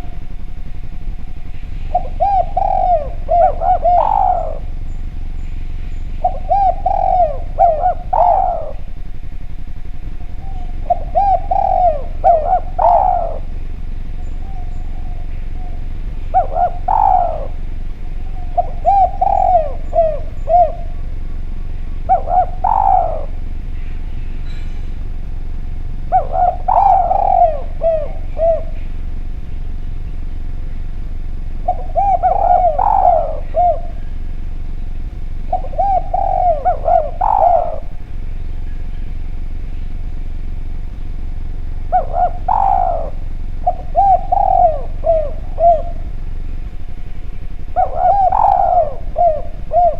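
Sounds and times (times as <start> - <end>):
dove cooing: 0.0 - 49.9
faint background hum: 0.0 - 49.9.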